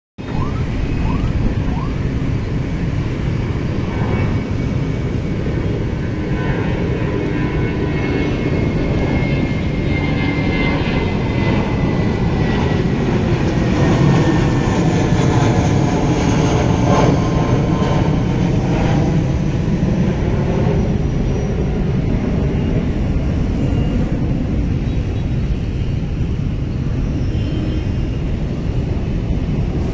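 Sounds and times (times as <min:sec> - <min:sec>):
jet airliner passing overhead: 0:00.2 - 0:29.9.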